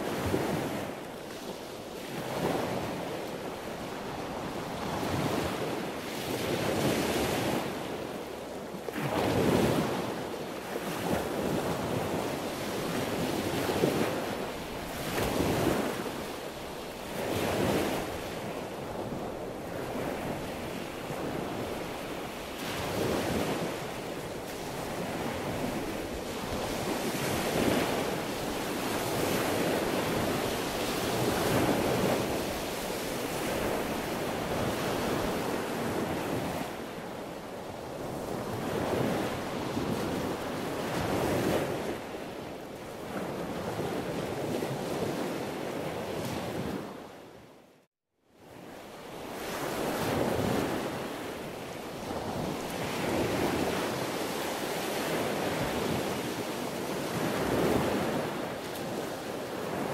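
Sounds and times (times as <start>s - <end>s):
sea waves breaking: 8.9s - 47.1s, 49.0s - 59.9s.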